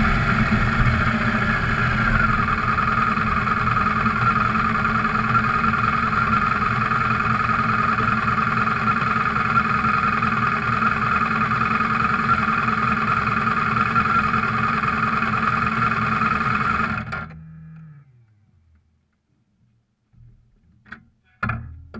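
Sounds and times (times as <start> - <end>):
motorcycle engine idling: 0.0 - 17.8
engine winding down: 0.0 - 18.5.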